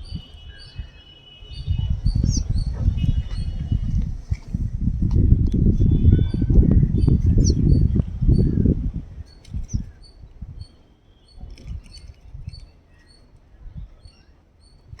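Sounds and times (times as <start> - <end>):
small bird chirping: 0.0 - 4.0, 5.5 - 15.0.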